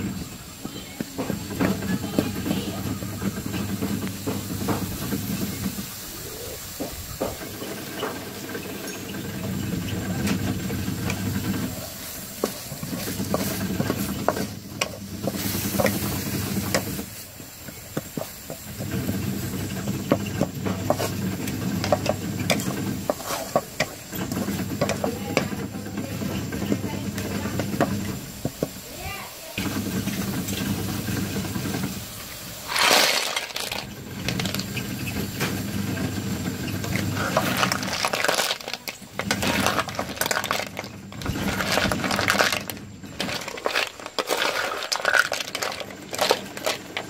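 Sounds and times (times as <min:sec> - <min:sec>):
frying hiss: 0:00.0 - 0:47.0
wooden spatula scraping a wok: 0:00.0 - 0:47.0.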